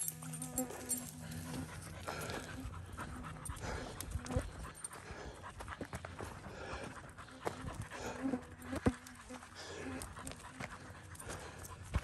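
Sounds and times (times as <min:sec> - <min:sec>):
rhythmic panting: 0:00.0 - 0:12.0.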